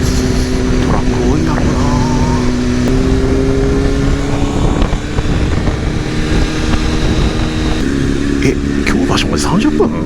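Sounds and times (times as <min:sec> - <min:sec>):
motorcycle engine running: 0:00.0 - 0:10.0
wind noise: 0:00.0 - 0:10.0.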